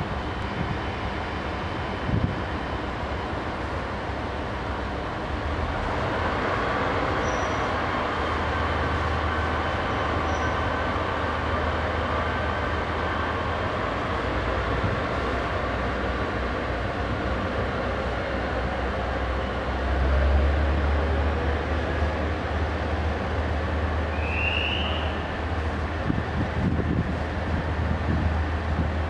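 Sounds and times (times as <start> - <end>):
diesel railcar engine drone: 0.0 - 29.0.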